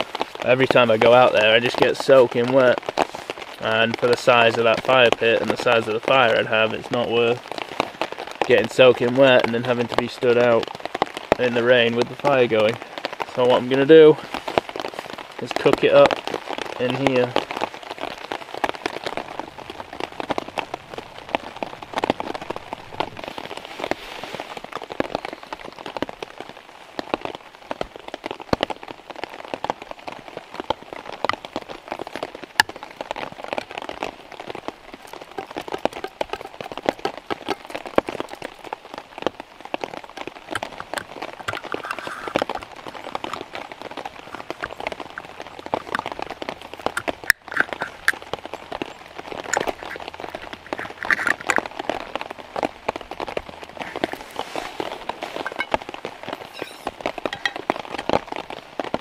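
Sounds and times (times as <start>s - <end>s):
rain pattering on a tarp: 0.0s - 59.0s.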